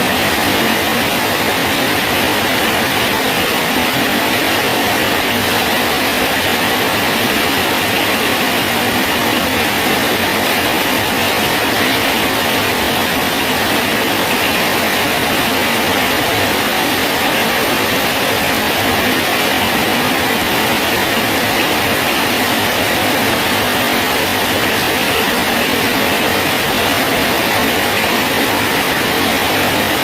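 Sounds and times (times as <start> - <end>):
steady rain hissing: 0.0 - 30.0.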